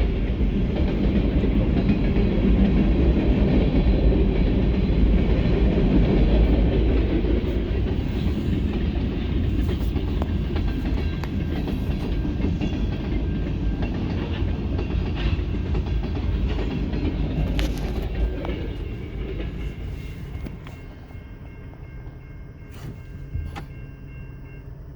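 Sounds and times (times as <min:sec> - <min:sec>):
train rolling past rumble: 0:00.0 - 0:24.9.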